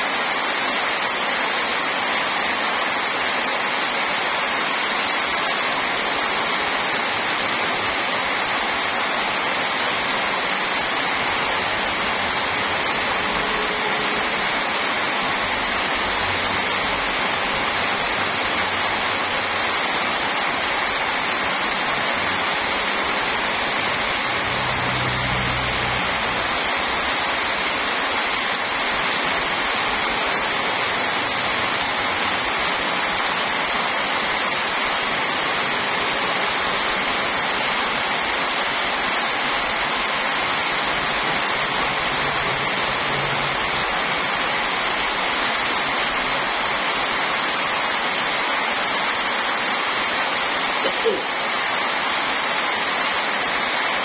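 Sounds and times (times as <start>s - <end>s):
heavy rain pouring on road: 0.0s - 54.0s
truck passing on wet road: 0.1s - 54.0s.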